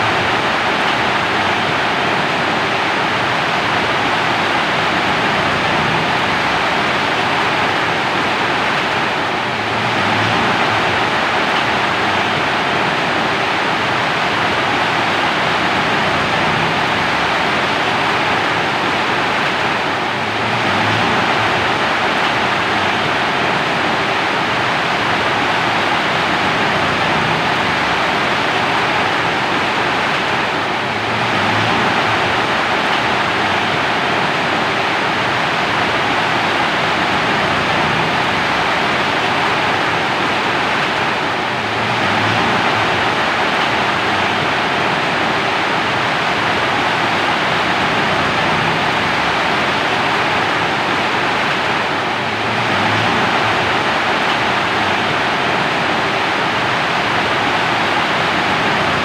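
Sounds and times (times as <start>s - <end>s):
steady rainfall hiss: 0.0s - 59.0s.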